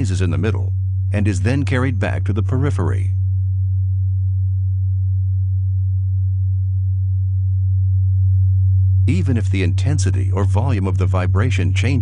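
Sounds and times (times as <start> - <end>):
loud low pure tone: 0.0 - 12.0.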